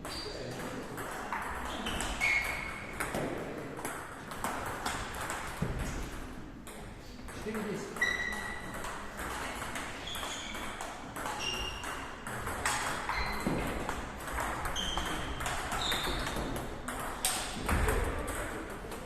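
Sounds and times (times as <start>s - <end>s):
table tennis balls clicking: 0.0s - 19.0s.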